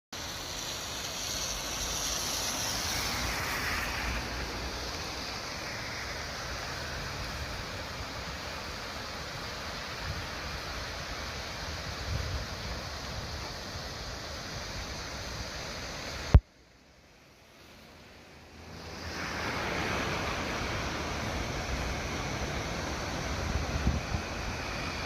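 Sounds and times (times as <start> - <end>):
waterfall rushing: 0.2 - 16.4, 17.7 - 25.0.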